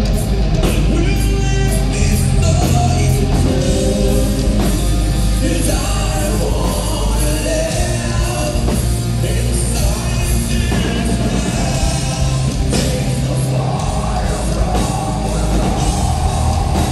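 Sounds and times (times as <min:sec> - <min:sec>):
heavy rock band playing: 0:00.0 - 0:16.9
man singing: 0:00.6 - 0:16.9.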